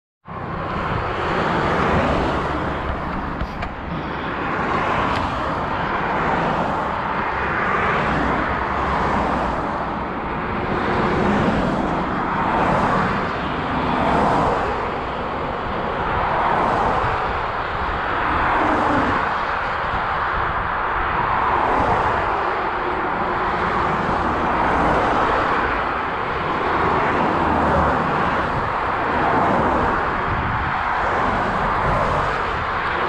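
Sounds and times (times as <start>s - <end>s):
traffic: 0.2s - 33.0s
bicycle road noise: 0.3s - 33.0s.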